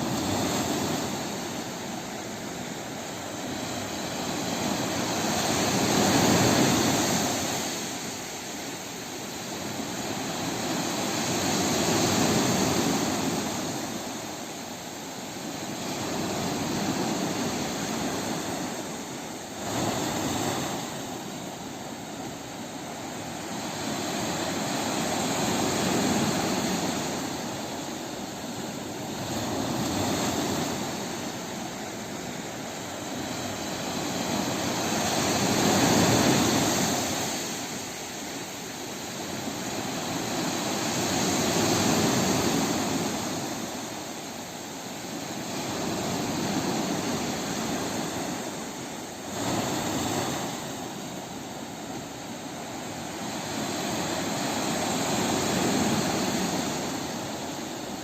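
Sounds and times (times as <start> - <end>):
waves breaking: 0.0 - 58.0.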